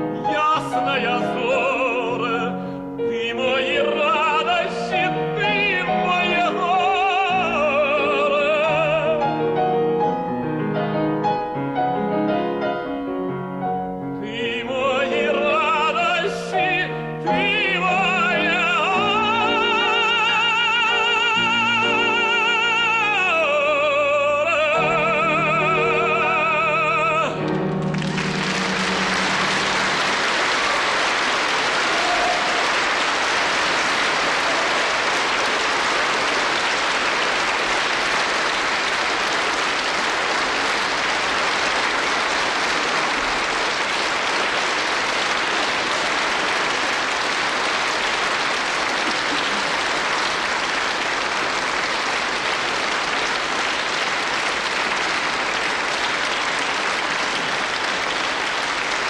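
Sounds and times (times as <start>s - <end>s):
audience applauding: 3.6s - 9.2s, 14.9s - 59.0s.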